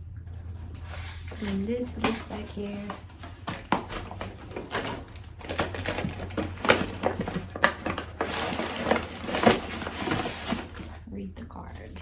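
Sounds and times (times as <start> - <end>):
gift packaging crinkling: 1.2 - 12.0.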